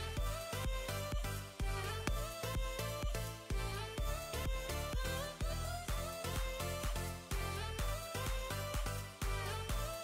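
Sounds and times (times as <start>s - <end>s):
pop electronic music: 0.0s - 10.0s.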